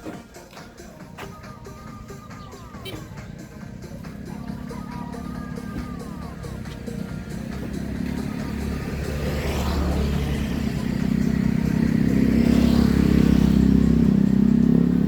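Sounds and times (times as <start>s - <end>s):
vehicle engine passing by: 2.6s - 15.0s.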